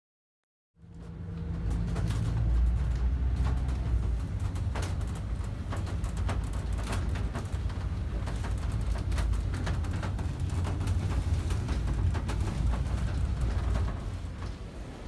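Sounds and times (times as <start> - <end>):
bus engine rumble: 0.8 - 15.0
clicks and rattles: 0.9 - 14.7.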